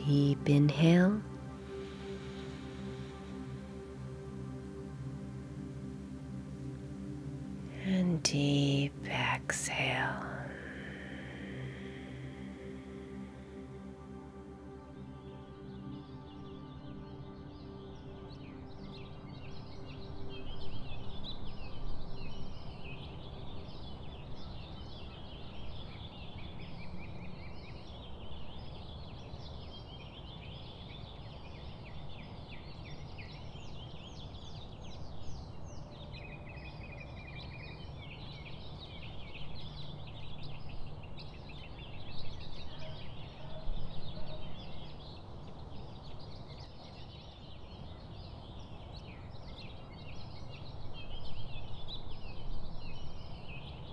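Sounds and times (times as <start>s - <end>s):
birds chirping and trilling: 0.0s - 53.9s
low background noise: 0.0s - 53.9s.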